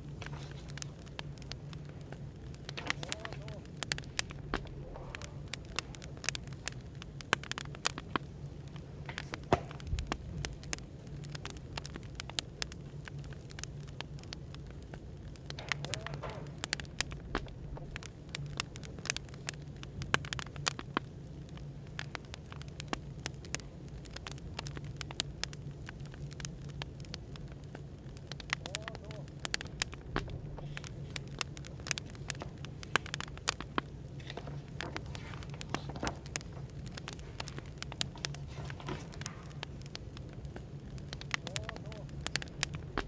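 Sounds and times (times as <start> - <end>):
low room hum: 0.0 - 43.0
wood fire crackling and popping: 0.0 - 43.0.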